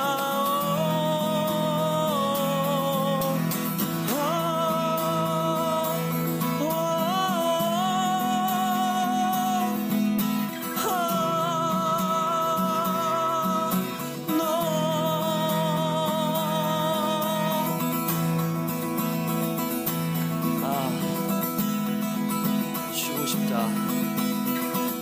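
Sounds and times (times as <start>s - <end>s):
man singing wordless vowels: 0.0s - 18.4s, 20.4s - 22.0s, 22.7s - 24.2s
strummed acoustic guitar: 0.0s - 25.0s.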